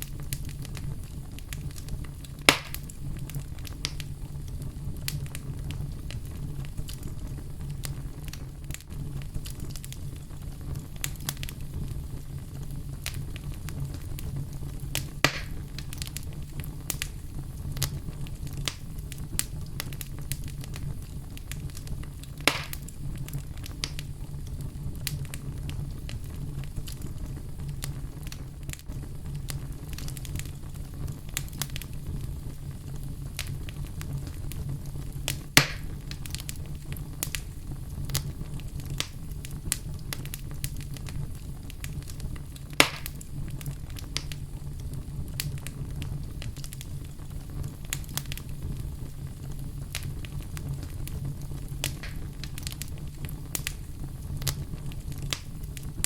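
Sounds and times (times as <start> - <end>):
low rumble of flames: 0.0 - 56.0
pops and snaps of fire: 0.0 - 56.0
wood fire crackling: 0.0 - 56.0.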